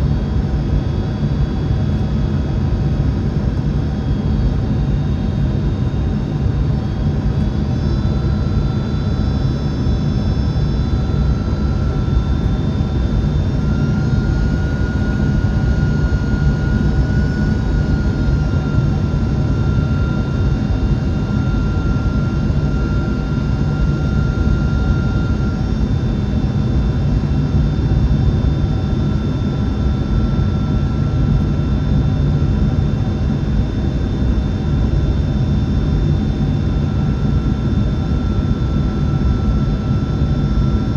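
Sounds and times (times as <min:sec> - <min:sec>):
airflow and jet engine rumble: 0:00.0 - 0:40.9.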